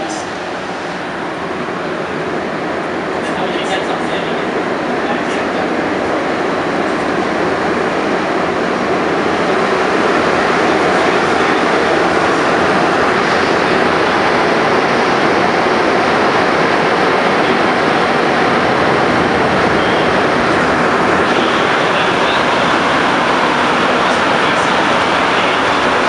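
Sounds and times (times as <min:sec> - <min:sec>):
metro car running through tunnel: 0:00.0 - 0:26.0.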